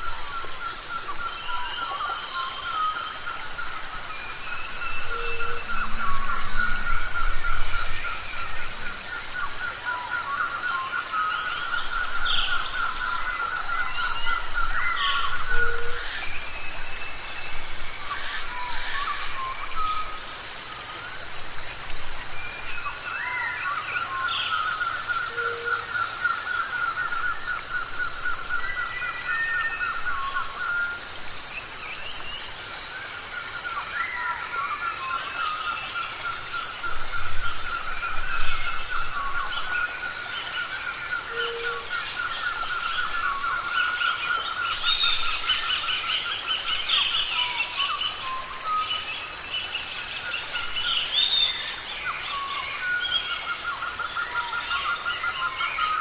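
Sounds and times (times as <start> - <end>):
birds chirping and whistling: 0.0 - 21.5, 22.3 - 56.0.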